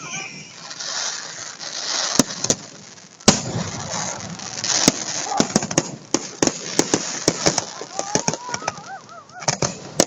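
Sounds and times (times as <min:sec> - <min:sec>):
fireworks bangs: 0:00.0 - 0:10.0
fireworks crackling hiss: 0:00.0 - 0:10.0.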